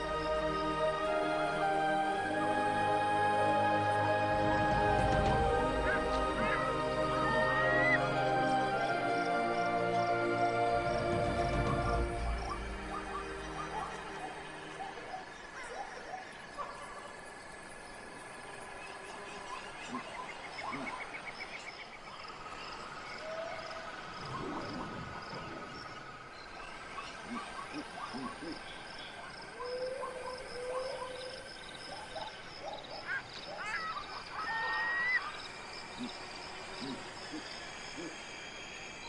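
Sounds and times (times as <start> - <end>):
gliding whistles: 0.0 - 16.2, 23.0 - 39.0.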